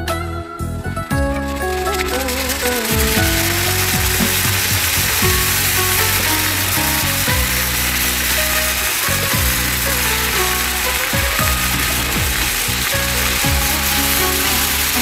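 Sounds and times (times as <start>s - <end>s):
vegetables sizzling in a wok: 1.4s - 15.0s.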